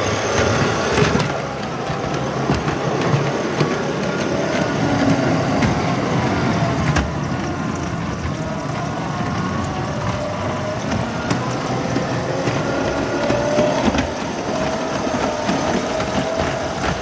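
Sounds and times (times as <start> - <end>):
model railcar rumbling on track: 0.0 - 17.0
sharp track clicks: 0.0 - 17.0.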